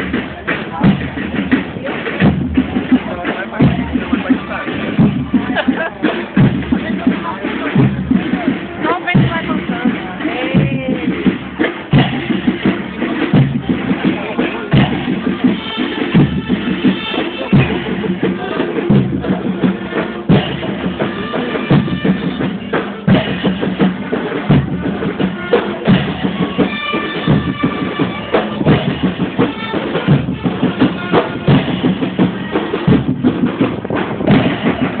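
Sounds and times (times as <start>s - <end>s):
music with drum kit beat: 0.0s - 35.0s.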